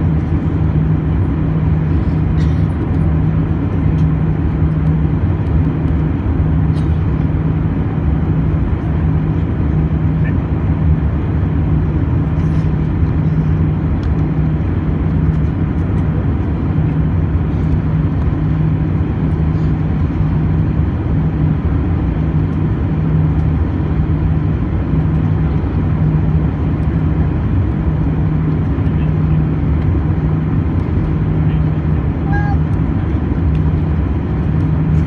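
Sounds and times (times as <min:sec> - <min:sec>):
jet engines and airflow drone: 0:00.0 - 0:35.0.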